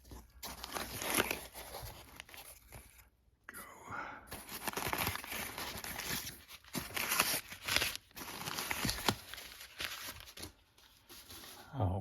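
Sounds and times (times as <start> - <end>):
cardboard box rustling and crinkling: 0.0 - 3.0, 4.4 - 11.6.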